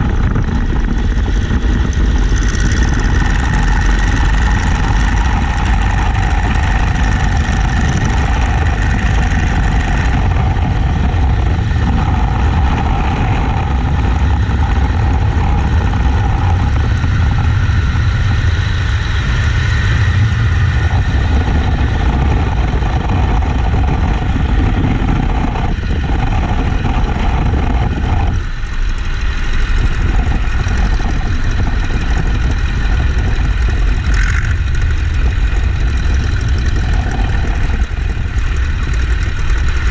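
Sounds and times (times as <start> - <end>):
biplane radial engine running: 0.0 - 39.9.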